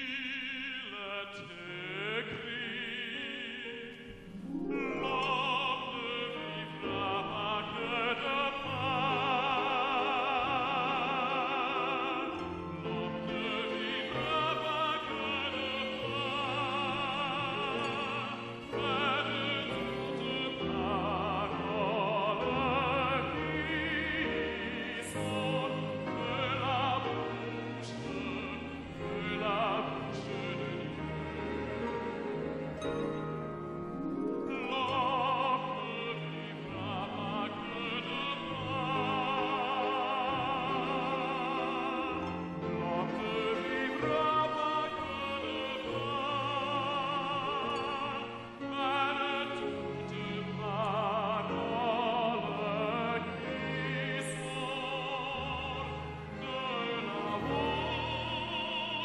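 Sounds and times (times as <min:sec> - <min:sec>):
man singing operatically: 0:00.0 - 0:32.8, 0:33.7 - 0:59.0
orchestra with violins: 0:00.0 - 0:59.0.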